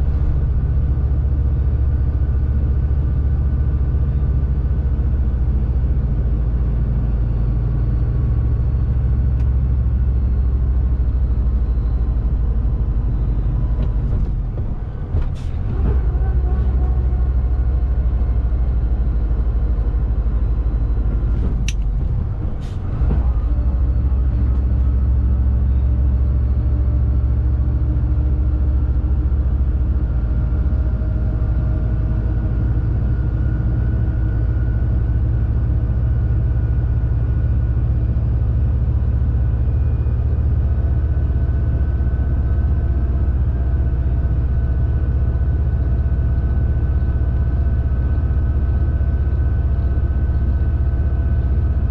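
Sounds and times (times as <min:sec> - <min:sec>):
truck engine and road drone: 0:00.0 - 0:51.9.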